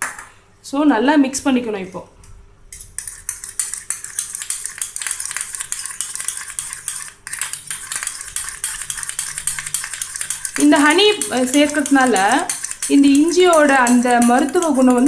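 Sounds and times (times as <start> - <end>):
spoon clinking and scraping cup: 2.8 - 15.0.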